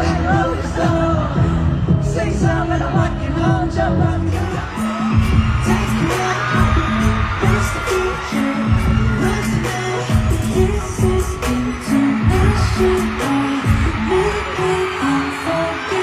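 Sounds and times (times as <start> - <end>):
heavy bass: 0.0 - 14.6
steady drum beat: 0.0 - 14.6
person singing: 0.0 - 16.0.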